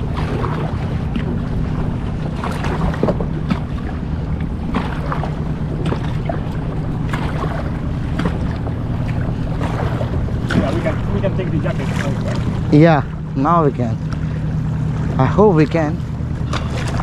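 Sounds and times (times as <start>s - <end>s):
constant low hum: 0.0s - 17.0s
kayak paddles splashing: 0.0s - 17.0s.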